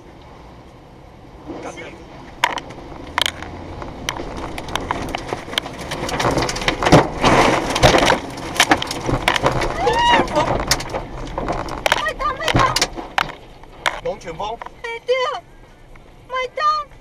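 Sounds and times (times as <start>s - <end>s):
rushing wind: 0.0s - 16.3s
rain and debris hitting car: 1.2s - 17.0s.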